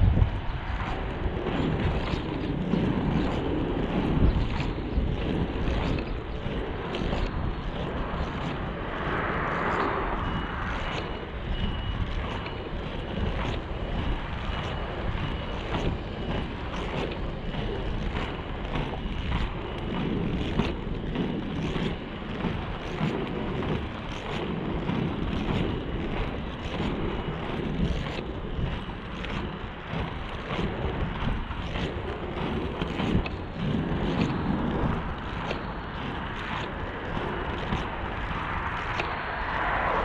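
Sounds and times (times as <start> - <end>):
faint stride clicks: 0.0 - 40.0
skate wheels rolling on asphalt: 0.0 - 40.0
wind rumbling on microphone: 0.0 - 40.0.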